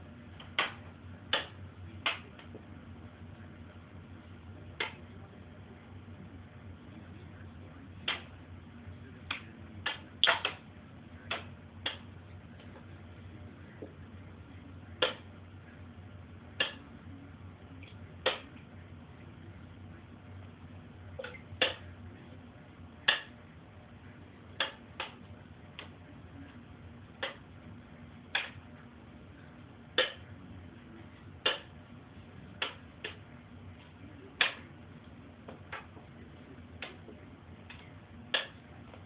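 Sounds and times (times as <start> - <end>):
faint low hum: 0.0 - 39.0.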